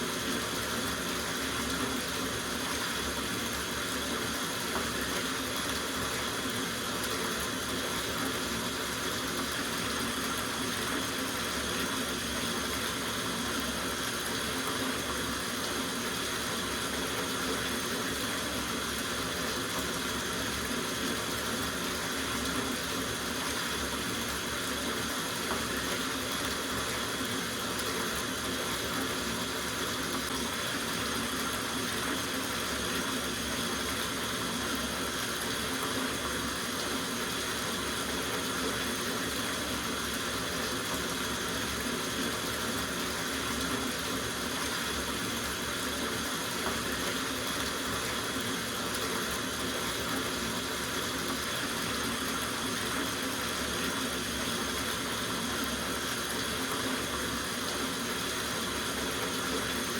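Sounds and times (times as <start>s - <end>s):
tap water running into bathtub: 0.0s - 59.9s.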